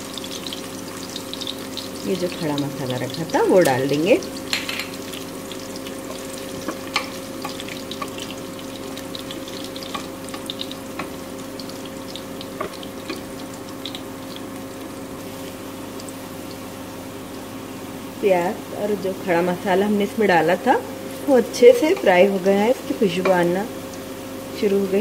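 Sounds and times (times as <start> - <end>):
spices and onion sizzling in oil: 0.0 - 25.0.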